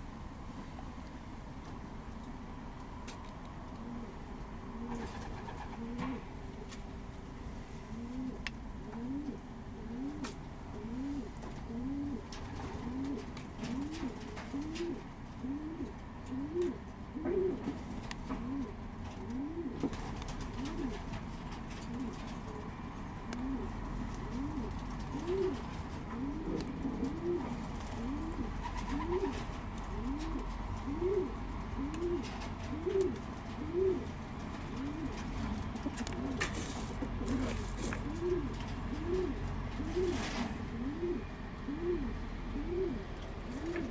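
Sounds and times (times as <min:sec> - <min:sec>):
pigeons cooing: 0:03.8 - 0:06.8, 0:07.9 - 0:43.9.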